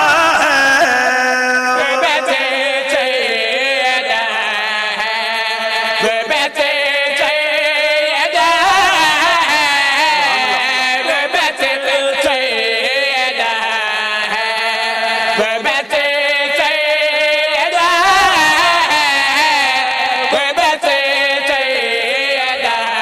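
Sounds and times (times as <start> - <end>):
man chanting through a microphone: 0.0 - 23.0.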